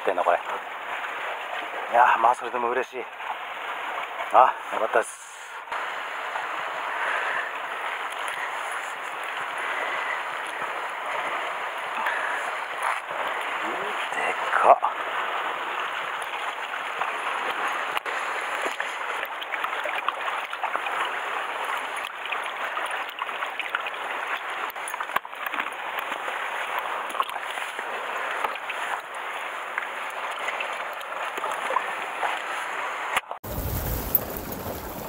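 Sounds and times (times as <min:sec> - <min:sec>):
sea water surging against rocks: 0:00.0 - 0:35.0.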